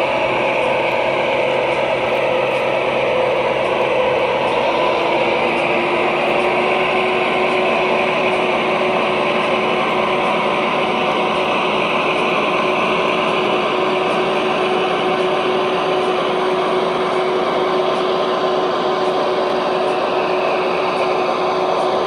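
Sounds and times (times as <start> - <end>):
model locomotives whirring: 0.0 - 22.0.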